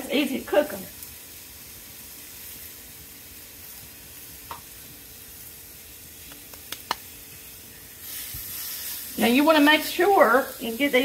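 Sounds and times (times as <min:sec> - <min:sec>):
patty sizzling in a skillet: 0:00.0 - 0:11.0.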